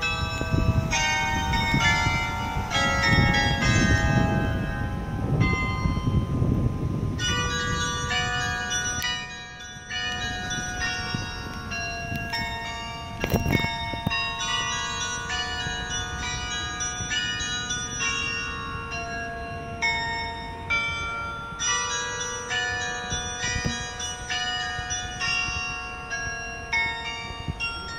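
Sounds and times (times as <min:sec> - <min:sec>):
tower bells playing a melody: 0:00.0 - 0:27.9.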